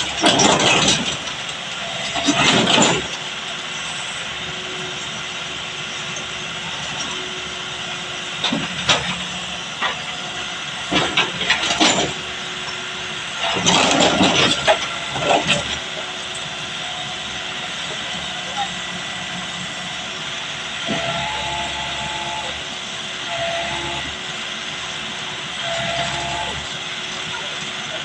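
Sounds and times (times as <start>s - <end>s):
backhoe engine roaring: 0.0s - 28.0s.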